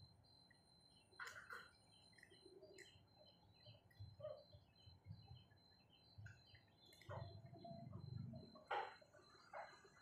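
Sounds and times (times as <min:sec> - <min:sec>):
bird chirps: 0:00.3 - 0:10.0.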